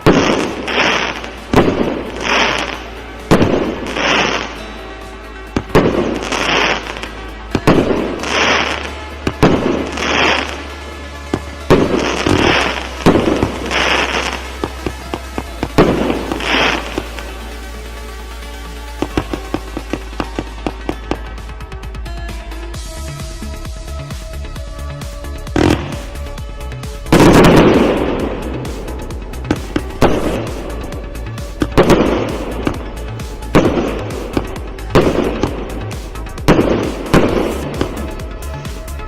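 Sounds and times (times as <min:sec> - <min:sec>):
fireworks launch bangs: 0:00.0 - 0:21.6, 0:23.6 - 0:39.0
fireworks bursts: 0:00.0 - 0:21.7, 0:23.5 - 0:39.0.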